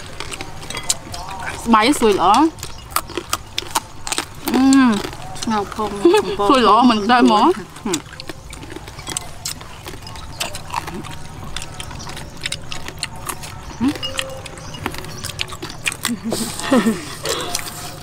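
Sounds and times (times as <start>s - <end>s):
chewing with crackles: 0.0s - 18.0s.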